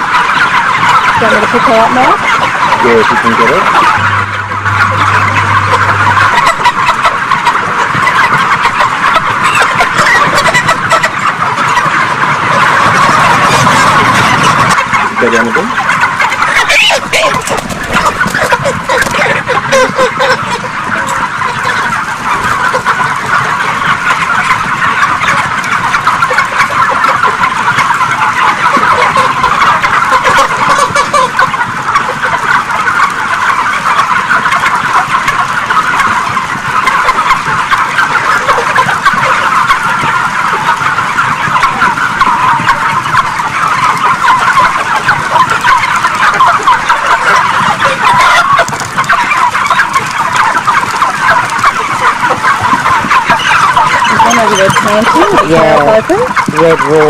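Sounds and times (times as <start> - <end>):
flock of chickens chattering: 0.0 - 57.0.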